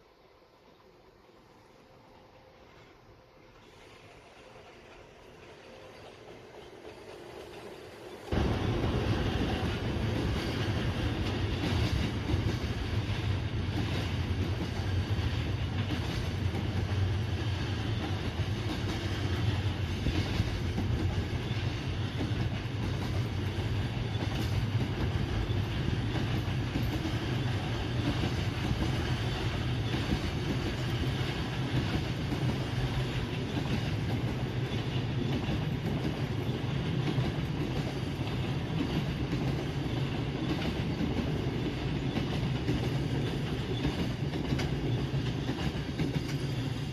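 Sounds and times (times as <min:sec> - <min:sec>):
freight train rolling past: 0:00.0 - 0:46.9
wheels clicking over rail joints: 0:05.4 - 0:46.9.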